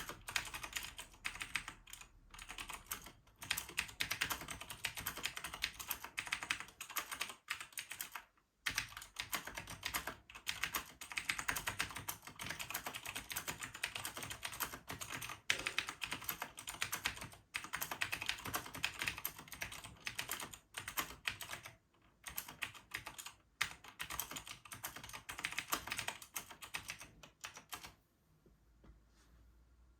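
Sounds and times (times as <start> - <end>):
mechanical keyboard typing: 0.0 - 28.0.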